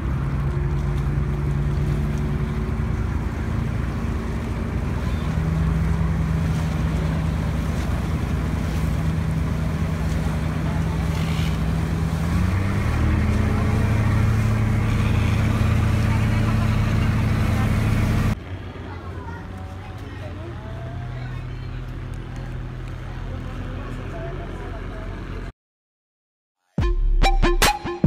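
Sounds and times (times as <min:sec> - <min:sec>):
water rushing along hull: 0:00.0 - 0:25.4
boat engine running: 0:00.0 - 0:25.5.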